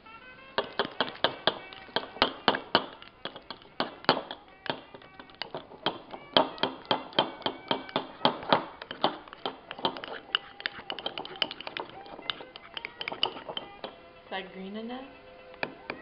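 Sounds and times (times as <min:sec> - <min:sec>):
utensil clinking against bowl: 0:00.6 - 0:14.0.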